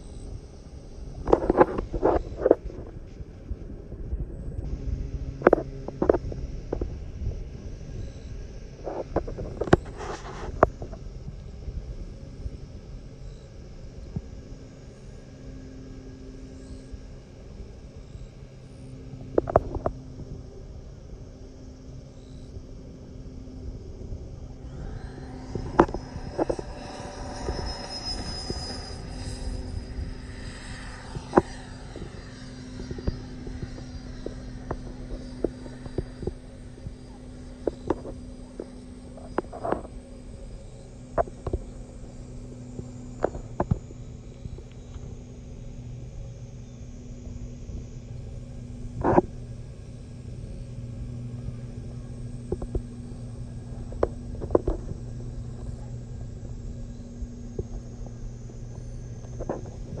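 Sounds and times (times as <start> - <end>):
low hum over rumble: 0.0 - 60.0
model jet droning overhead: 0.0 - 60.0.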